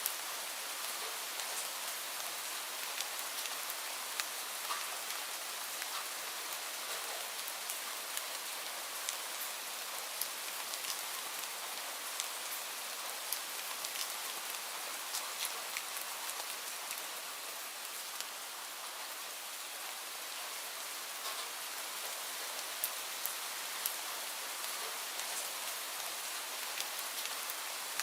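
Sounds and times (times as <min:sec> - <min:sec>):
raindrops ticking on surface: 0:00.0 - 0:18.9, 0:20.2 - 0:28.0
light rain hissing: 0:00.0 - 0:28.0.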